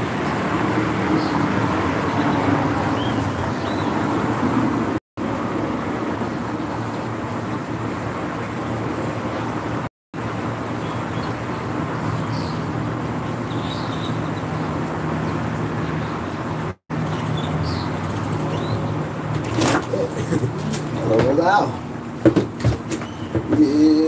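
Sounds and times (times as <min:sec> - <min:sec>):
vehicle engine and road hum: 0:00.0 - 0:24.0.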